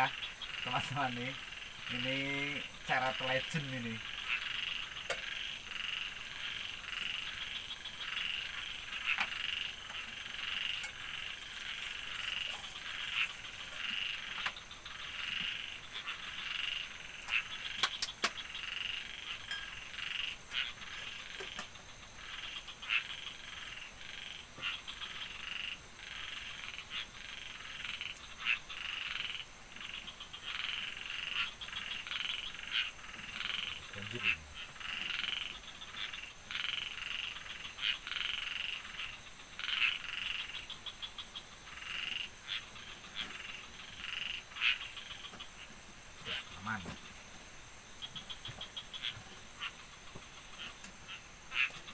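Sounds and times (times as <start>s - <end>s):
frogs calling: 0.0s - 51.9s.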